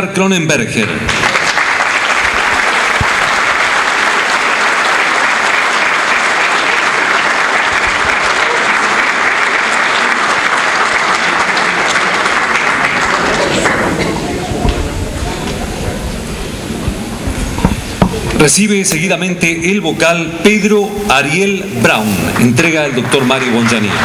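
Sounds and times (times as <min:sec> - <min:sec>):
audience applauding: 0:01.1 - 0:19.0, 0:20.6 - 0:24.0.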